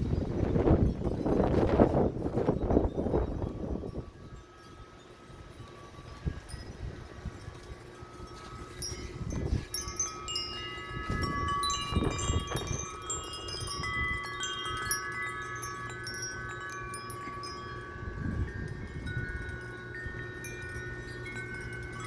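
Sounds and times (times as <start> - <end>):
metal wind chimes ringing: 0.0 - 22.0
wind rumbling on microphone: 0.0 - 22.0.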